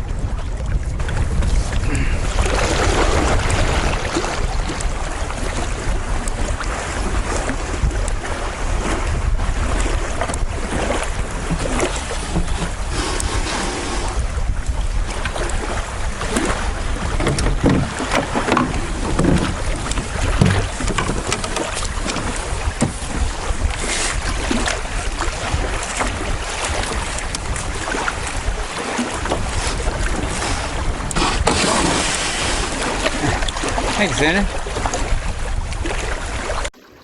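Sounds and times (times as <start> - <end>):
wind buffeting microphone: 0.0 - 36.7
water lapping and splashing: 0.0 - 37.0.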